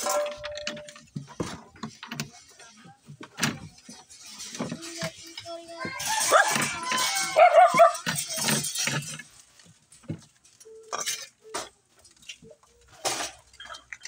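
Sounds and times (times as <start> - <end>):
glass bottles clinking in crates: 0.0 - 11.7, 13.0 - 14.0.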